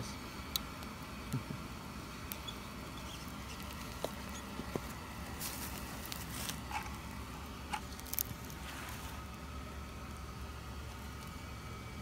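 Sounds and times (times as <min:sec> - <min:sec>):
steady low hum: 0:00.0 - 0:12.0
fire crackling: 0:00.3 - 0:11.7.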